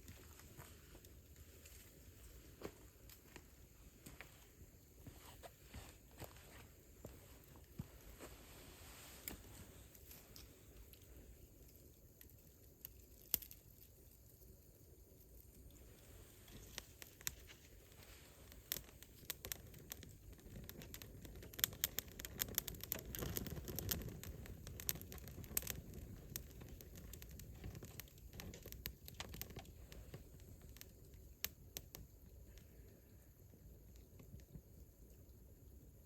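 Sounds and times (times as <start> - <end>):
campfire crackling and popping: 0.0 - 36.0
low rush of flame: 0.0 - 36.0.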